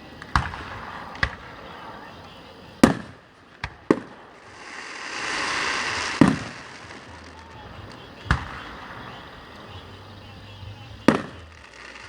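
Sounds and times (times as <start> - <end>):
fireworks bangs: 0.0 - 12.0
fireworks hiss: 0.0 - 12.0.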